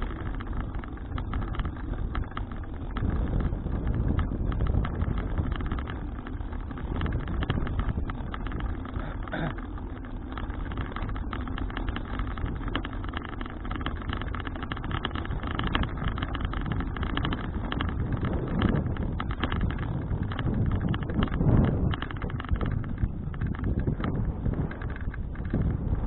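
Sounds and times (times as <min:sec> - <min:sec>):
small crackles and rattles: 0:00.0 - 0:26.0
wind buffeting microphone: 0:00.0 - 0:26.0.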